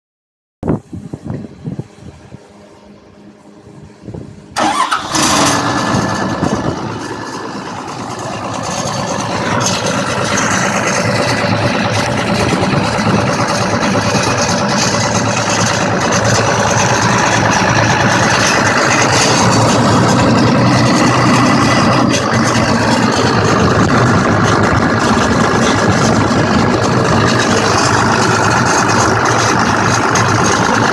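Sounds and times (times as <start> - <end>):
vehicle engine starting and running: 0.9 - 30.9.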